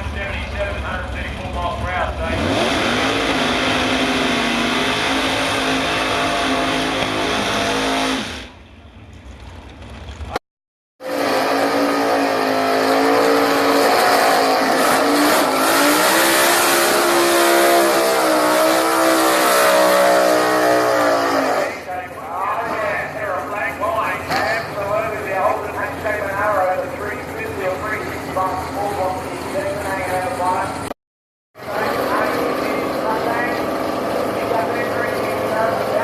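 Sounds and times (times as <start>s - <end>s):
drag racing car engine revving: 0.0s - 10.4s, 11.0s - 30.9s, 31.6s - 36.0s.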